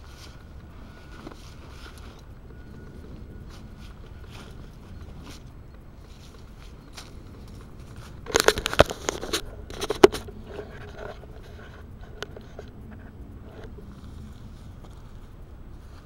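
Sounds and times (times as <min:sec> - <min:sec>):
faint ticks: 0:00.0 - 0:16.0
rustling handling noise: 0:00.0 - 0:16.0.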